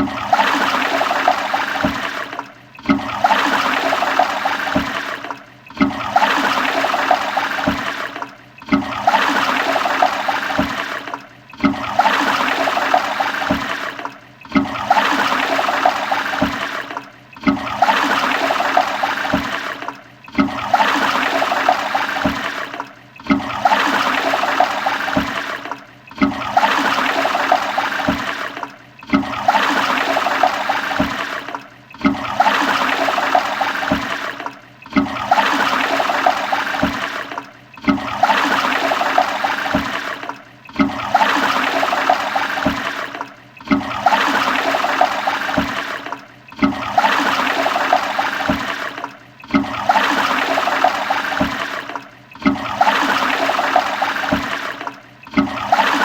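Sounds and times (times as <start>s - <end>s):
toilet flushing: 0.0s - 56.0s.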